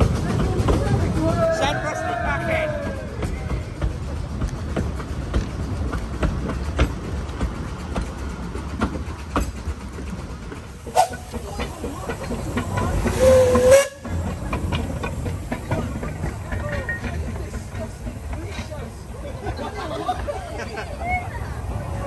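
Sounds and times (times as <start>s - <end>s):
steam locomotive hiss: 0.0s - 22.0s
train wheels clicking over joints: 0.0s - 22.0s.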